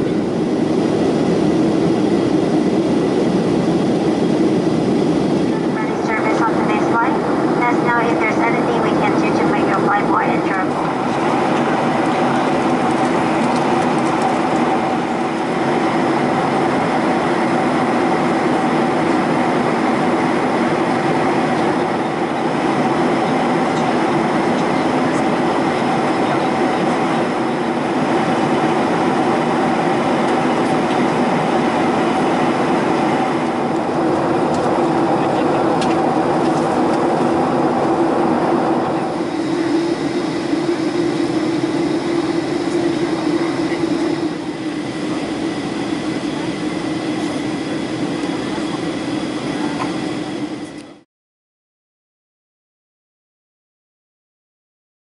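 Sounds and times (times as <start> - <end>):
jet airliner cabin drone: 0.0 - 51.1.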